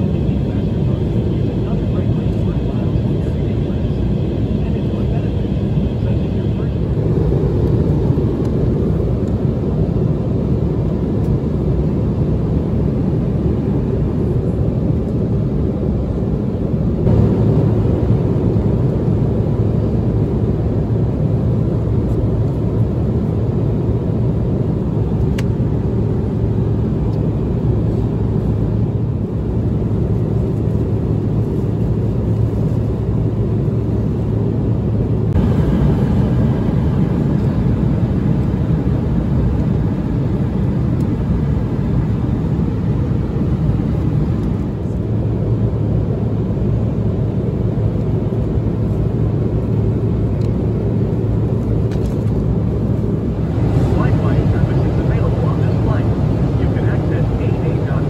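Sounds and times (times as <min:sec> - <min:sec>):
airliner cabin rumble: 0:00.0 - 0:58.0
steady low hum: 0:00.0 - 0:58.0.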